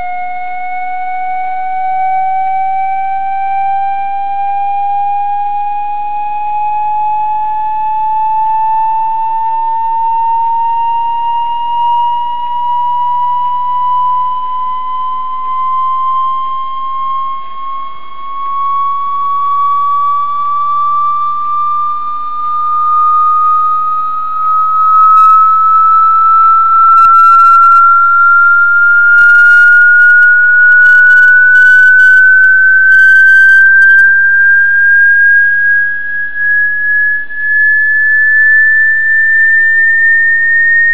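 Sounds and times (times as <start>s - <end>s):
sine tone sweeping upward: 0.0s - 40.9s.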